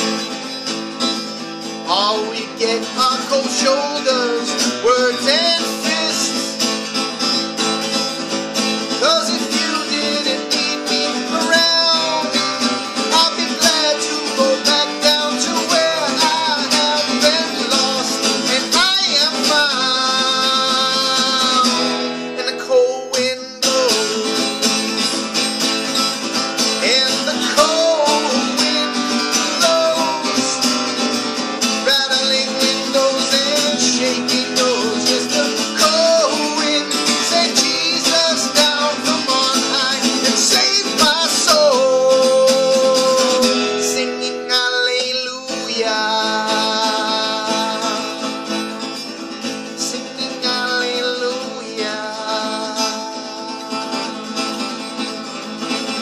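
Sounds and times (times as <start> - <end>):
acoustic guitar strumming: 0.0 - 56.0
man singing: 0.0 - 56.0.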